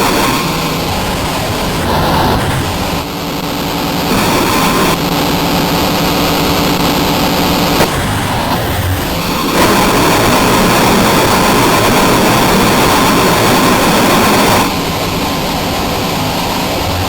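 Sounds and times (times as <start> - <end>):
harsh static noise: 0.0 - 17.0.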